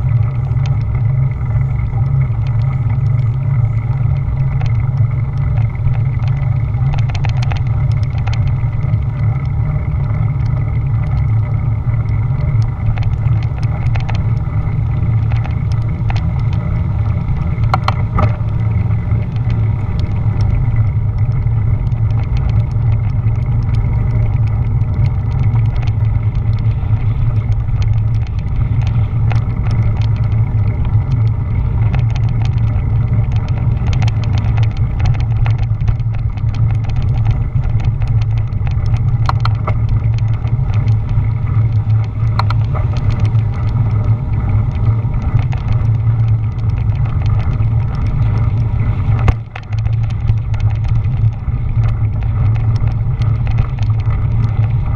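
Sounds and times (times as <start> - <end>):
bike rattles and clicks: 0.0 - 54.9
tyre and road noise: 0.0 - 54.9
wind buffeting microphone: 0.0 - 54.9.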